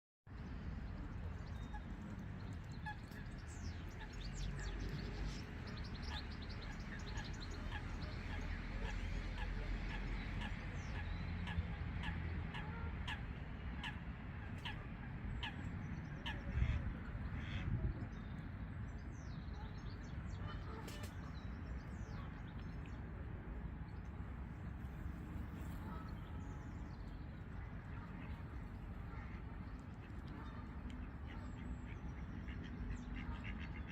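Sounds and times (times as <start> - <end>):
low outdoor rumble: 0.3 - 33.9
flock of birds chirping: 1.0 - 33.9.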